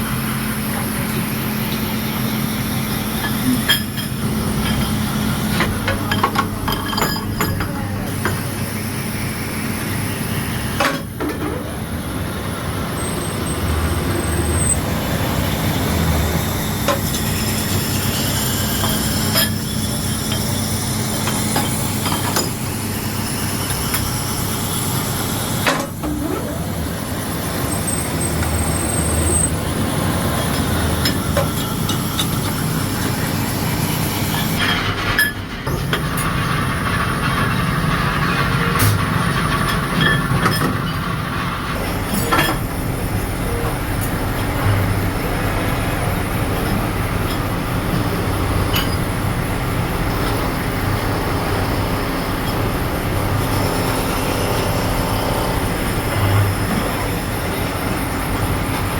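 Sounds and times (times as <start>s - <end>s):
machinery humming: 0.0s - 58.9s.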